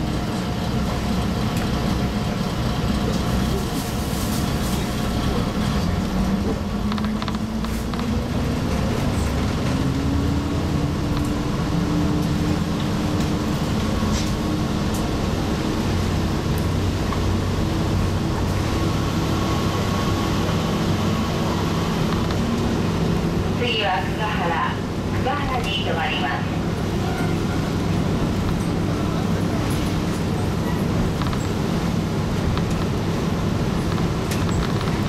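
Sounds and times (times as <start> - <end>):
railcar diesel engine: 0.0 - 35.0.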